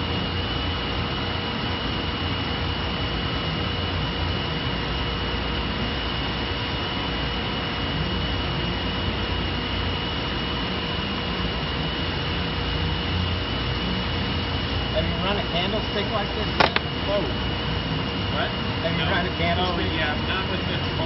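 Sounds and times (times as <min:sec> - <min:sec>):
constant high whine: 0:00.0 - 0:21.0.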